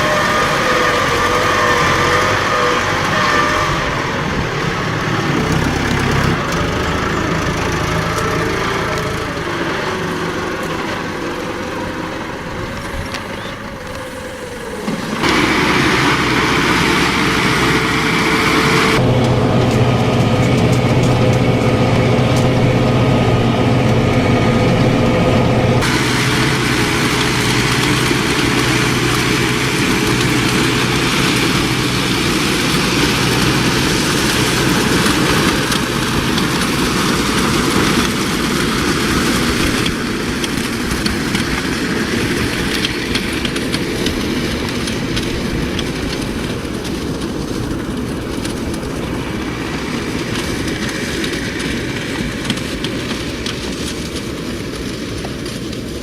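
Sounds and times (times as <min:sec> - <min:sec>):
muck spreader working: 0:00.0 - 0:56.0
tractor engine running: 0:00.0 - 0:56.0.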